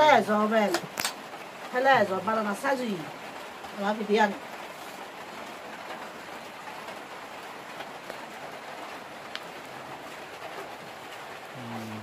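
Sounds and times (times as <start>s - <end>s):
steady hissing noise: 0.0s - 12.0s.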